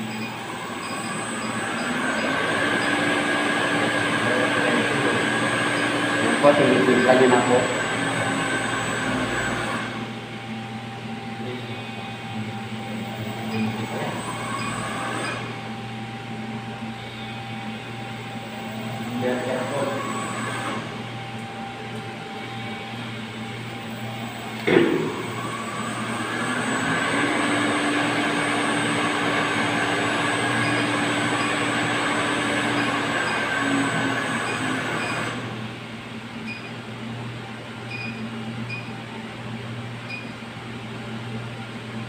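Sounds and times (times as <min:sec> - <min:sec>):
pump motor humming: 0:00.0 - 0:17.1, 0:17.8 - 0:35.7
steady room hum: 0:00.0 - 0:42.0.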